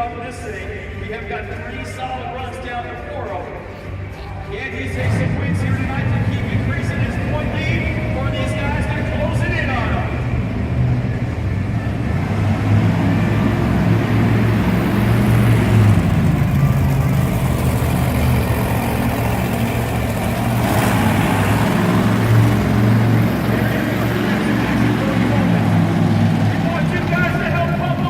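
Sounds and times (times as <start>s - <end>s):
monster truck engine revving: 4.8s - 28.0s.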